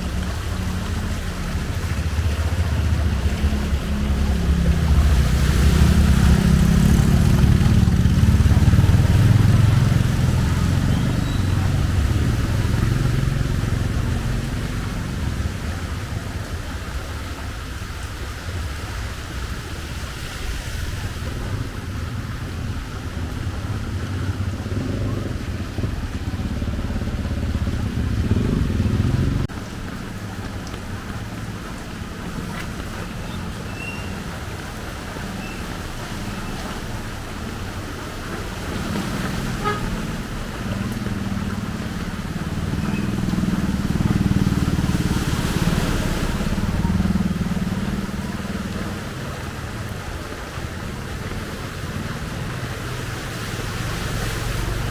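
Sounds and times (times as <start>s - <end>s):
rain hissing: 0.0s - 54.9s
vehicle engine rumble: 0.0s - 54.9s.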